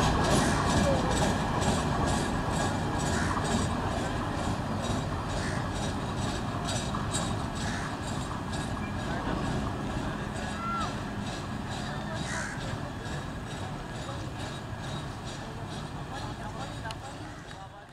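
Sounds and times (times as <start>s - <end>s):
train wheels clattering over rail joints: 0.0s - 17.9s.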